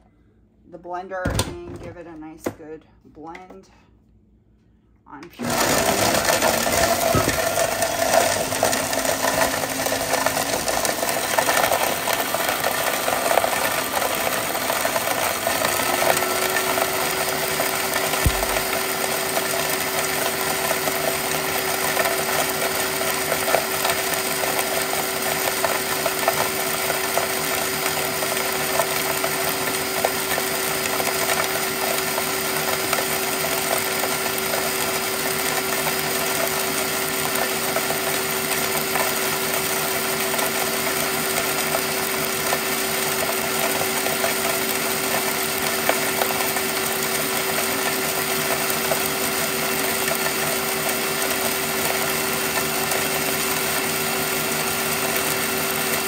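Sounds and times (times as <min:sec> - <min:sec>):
blender running: 0:05.4 - 0:56.0.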